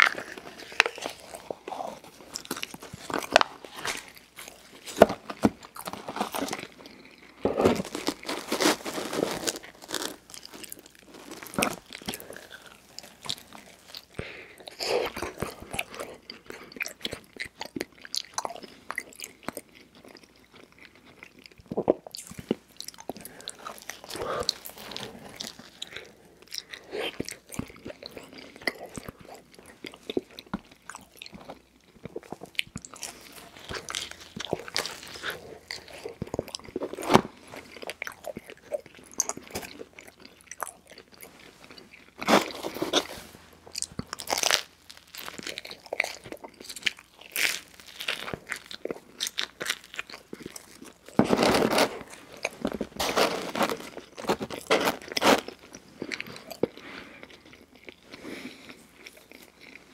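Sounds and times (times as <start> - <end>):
person biting and chewing: 0.0 - 59.9.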